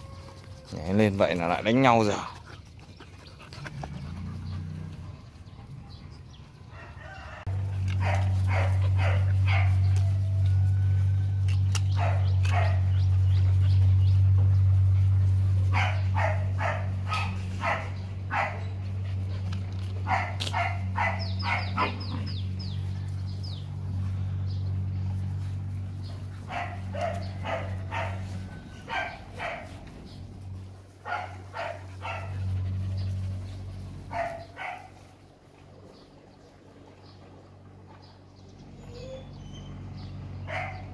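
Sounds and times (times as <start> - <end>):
puppies barking and yipping: 0.0 - 35.3, 38.6 - 40.9
steady low hum: 2.2 - 40.9.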